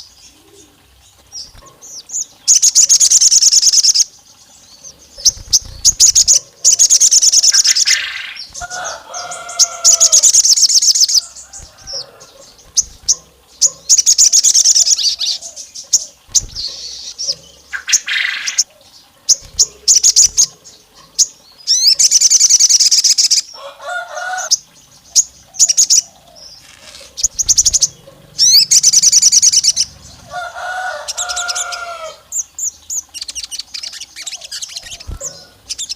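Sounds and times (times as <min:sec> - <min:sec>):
songbird rapid trilling: 0:00.0 - 0:35.9.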